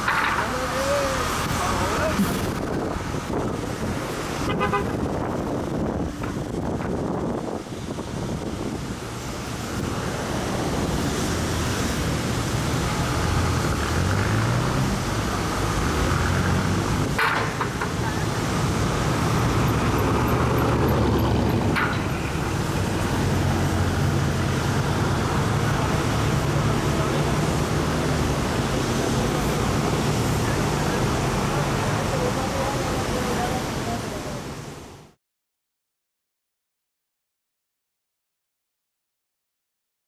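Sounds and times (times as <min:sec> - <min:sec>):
car and motorbike engines passing: 0:00.0 - 0:34.4
traffic hum: 0:00.0 - 0:35.2.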